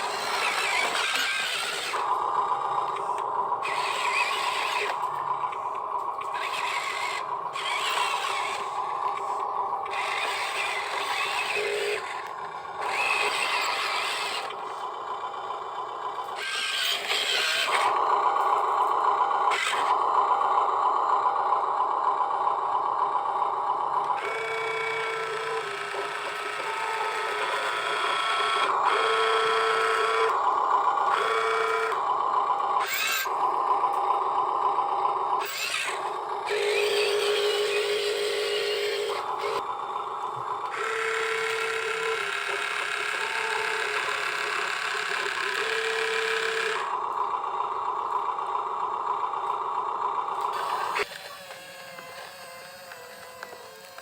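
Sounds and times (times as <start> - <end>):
small electric gear motors whining: 0.0 - 54.0.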